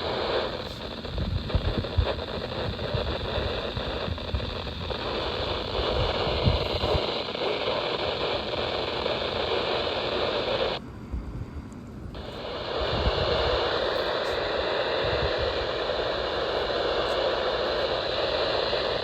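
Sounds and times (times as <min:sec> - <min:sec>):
radio static hiss: 0:00.0 - 0:10.8, 0:12.1 - 0:19.0.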